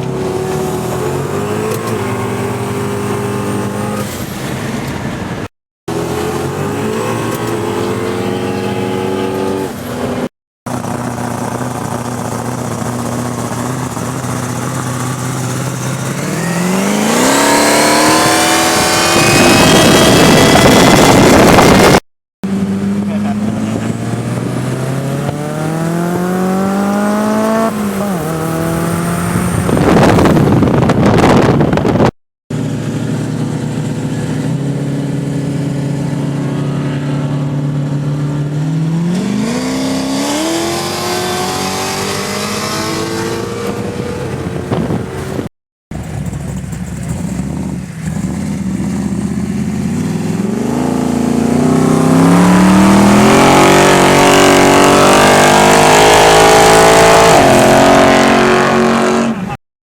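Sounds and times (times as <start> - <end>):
tyre and exhaust rushing: 0.0 - 59.6
car engine revving: 5.9 - 59.6.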